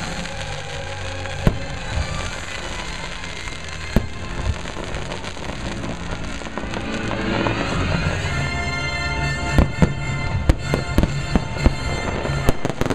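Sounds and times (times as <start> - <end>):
show music: 0.0 - 12.9.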